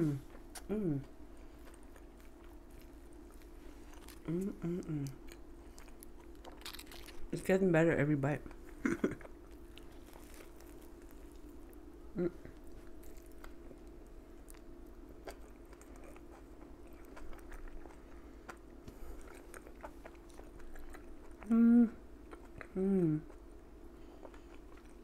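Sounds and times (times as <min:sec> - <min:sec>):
faint steady hum: 0:00.0 - 0:25.0
chewing crunches: 0:01.5 - 0:07.4, 0:08.5 - 0:11.8, 0:12.4 - 0:21.5, 0:22.2 - 0:25.0.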